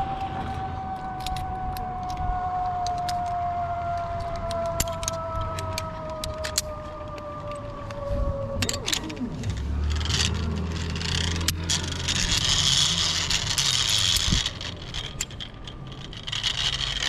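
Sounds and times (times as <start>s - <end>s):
zip-line pulley whirring on cable: 0.0s - 17.0s.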